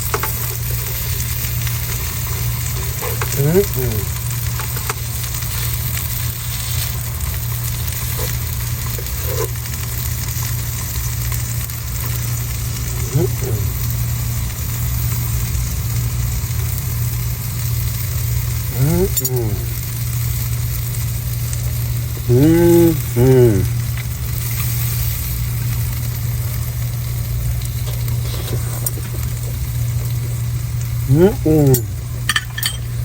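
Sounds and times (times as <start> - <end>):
fish sizzling in a pan: 0.0 - 33.0.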